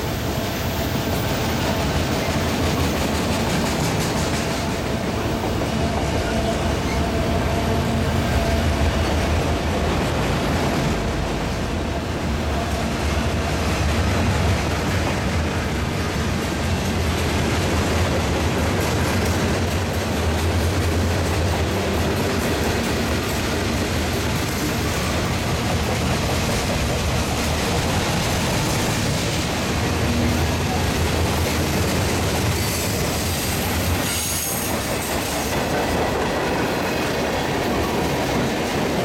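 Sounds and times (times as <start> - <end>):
freight train rolling past: 0.0 - 39.0.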